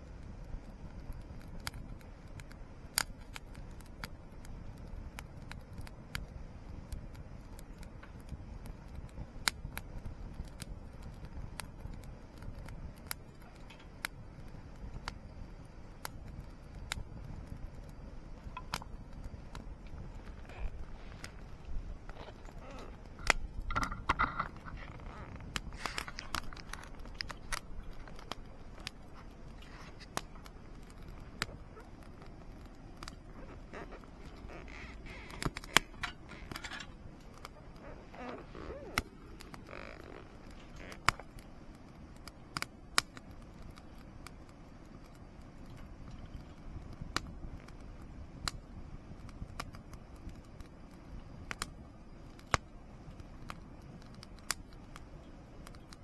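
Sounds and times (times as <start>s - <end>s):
low background hiss: 0.0s - 56.0s
wood fire crackling: 0.0s - 56.0s.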